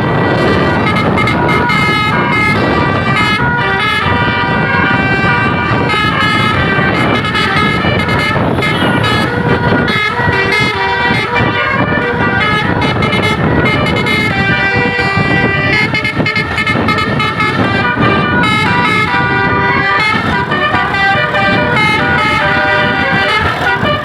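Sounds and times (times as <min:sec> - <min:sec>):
bus engine rumble: 0:00.0 - 0:24.0
bus horns playing a melody: 0:00.0 - 0:24.0.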